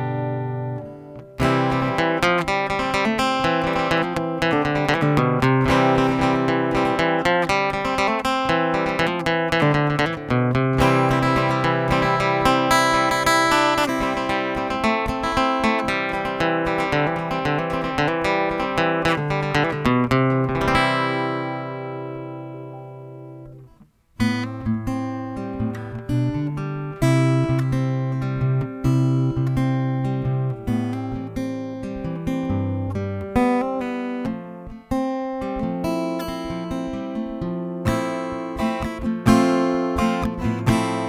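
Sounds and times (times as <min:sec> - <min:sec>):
acoustic-electric guitar playing: 0:00.0 - 0:41.0.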